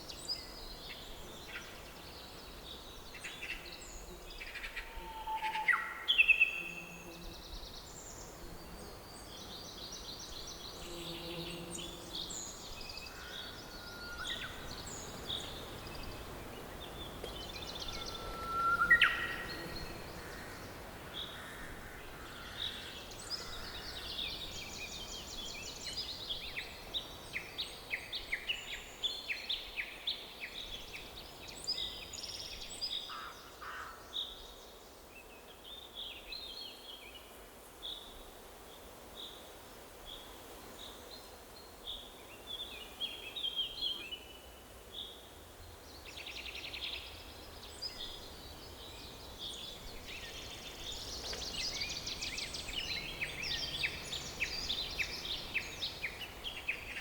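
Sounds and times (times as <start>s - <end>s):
songbirds chirping and trilling: 0.0s - 37.2s, 40.9s - 57.0s
faint forest background: 0.0s - 57.0s.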